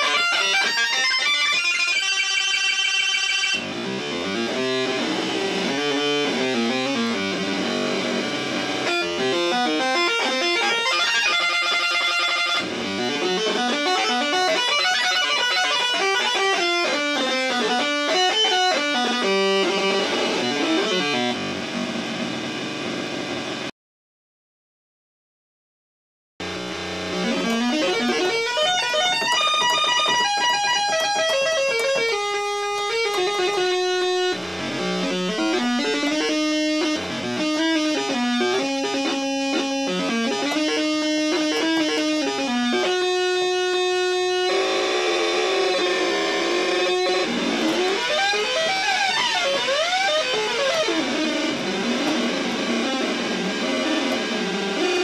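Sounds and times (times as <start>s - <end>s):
buzzy synthesizer melody: 0.0s - 23.7s, 26.4s - 55.0s.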